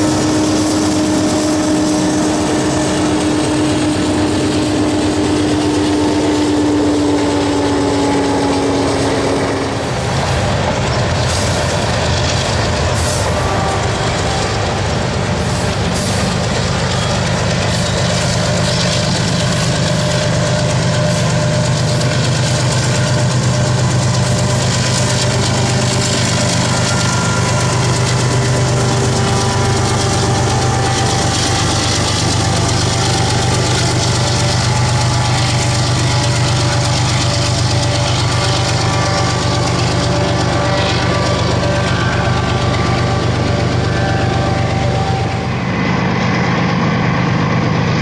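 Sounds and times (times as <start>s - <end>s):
locomotive engine drone: 0.0s - 48.0s
train wheels rumbling on rails: 0.0s - 48.0s.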